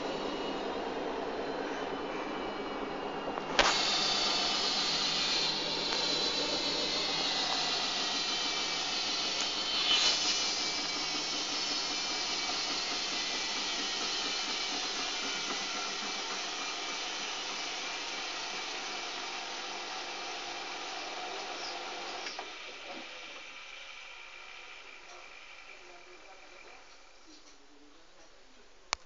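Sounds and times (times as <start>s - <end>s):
washing machine spinning: 0.0s - 27.2s.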